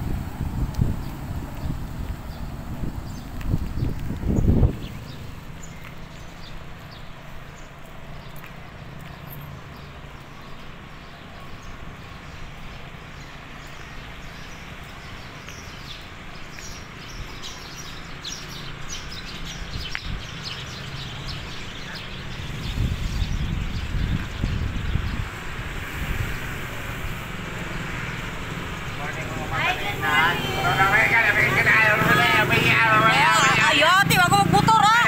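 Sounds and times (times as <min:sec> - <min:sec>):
bicycle road noise: 0:00.0 - 0:35.0
birds chirping: 0:00.0 - 0:35.0
rumble of wind or traffic: 0:00.0 - 0:35.0.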